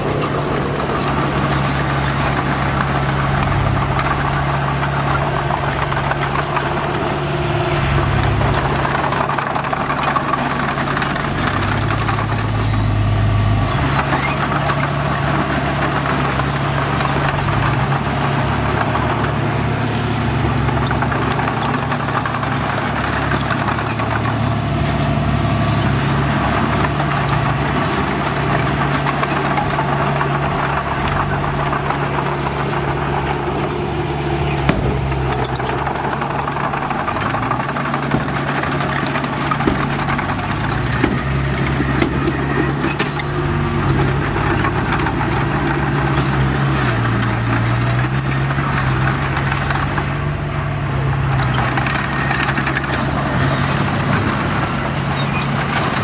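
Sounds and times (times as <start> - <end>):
sharp metallic knocks: 0.0 - 50.4
bulldozer diesel engine running: 0.0 - 56.0.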